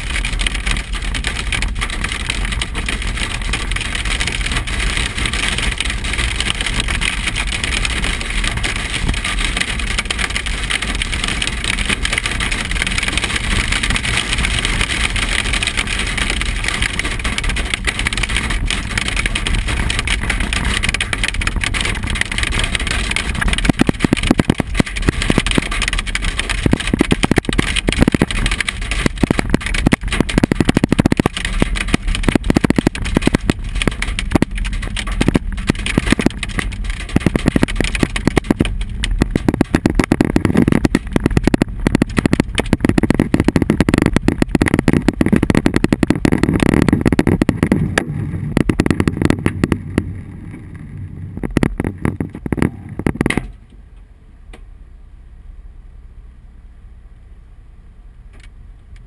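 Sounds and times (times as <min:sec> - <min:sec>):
hail drumming on vehicle roof: 0:00.0 - 0:53.6
low rumble: 0:00.0 - 0:59.0.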